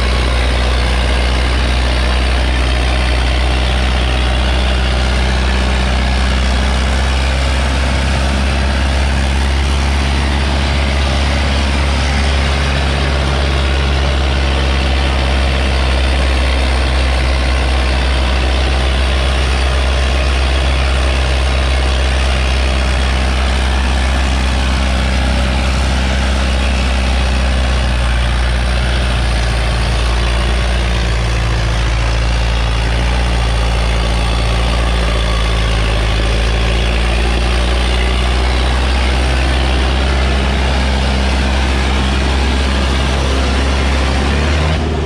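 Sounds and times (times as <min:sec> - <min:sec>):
tractor diesel engine under load: 0:00.0 - 0:45.0.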